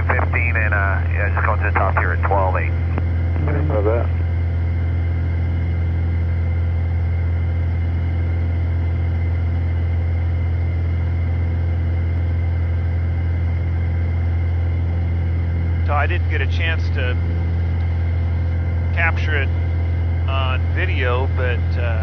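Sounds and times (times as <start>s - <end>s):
propeller aircraft engine drone: 0.0s - 22.0s.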